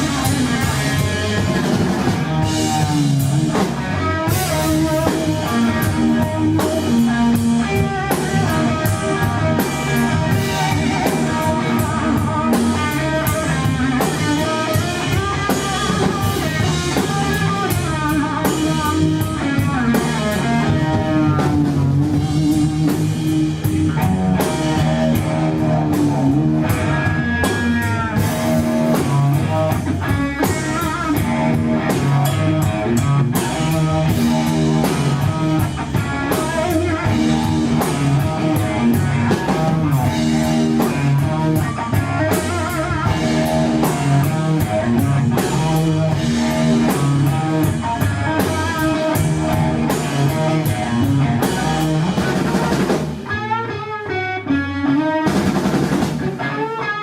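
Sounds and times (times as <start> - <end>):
bass guitar: 0.0 - 57.0
drum kit: 0.0 - 57.0
electric guitar soloing: 0.0 - 57.0.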